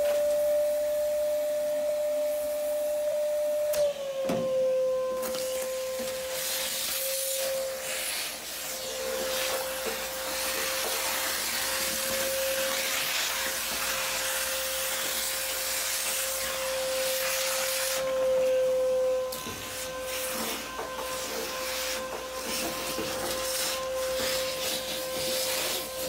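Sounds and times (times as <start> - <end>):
vacuum cleaner sucking debris: 0.0 - 26.0.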